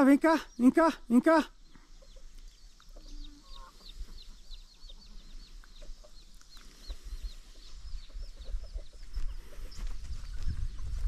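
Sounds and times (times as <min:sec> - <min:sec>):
chicks peeping: 0:00.2 - 0:11.0
low chicken cluck: 0:01.6 - 0:11.0.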